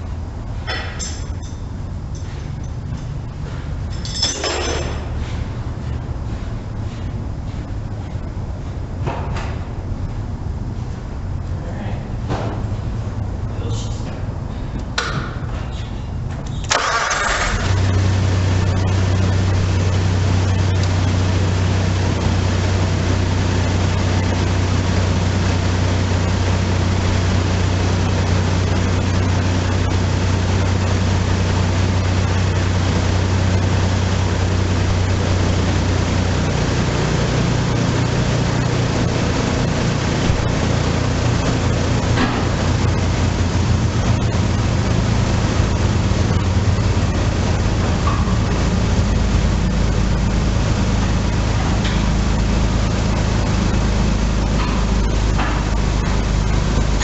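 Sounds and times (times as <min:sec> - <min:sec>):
car engine running: 0:00.0 - 0:15.6, 0:16.2 - 0:57.0.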